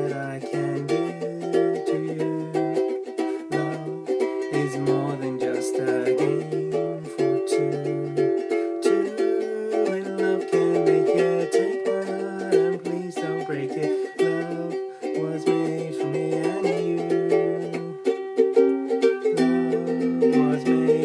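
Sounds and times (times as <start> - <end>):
man singing: 0.0 - 18.2, 18.9 - 21.0
ukulele strumming: 0.0 - 21.0.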